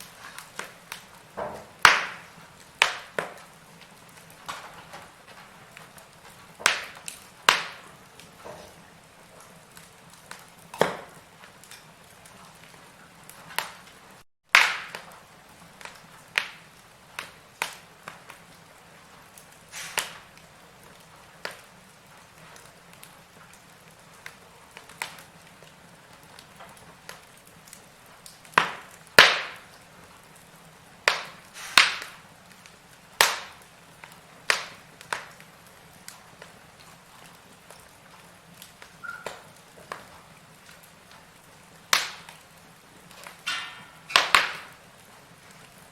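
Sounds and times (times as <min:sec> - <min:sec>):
faint steady hiss: 0:00.0 - 0:45.9
firewood crackling and popping: 0:00.0 - 0:45.9.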